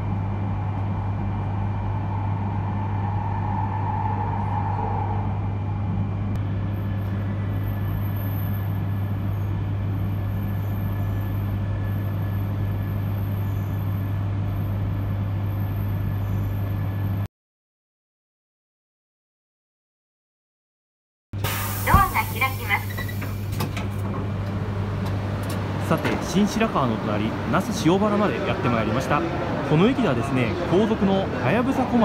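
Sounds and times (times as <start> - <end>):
train hum and rumble: 0.0 - 17.3, 21.4 - 32.0.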